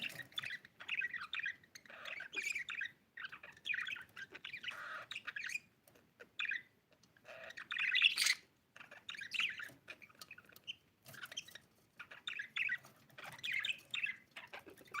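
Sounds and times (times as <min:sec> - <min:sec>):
budgerigar chirping and warbling: 0:00.0 - 0:15.0.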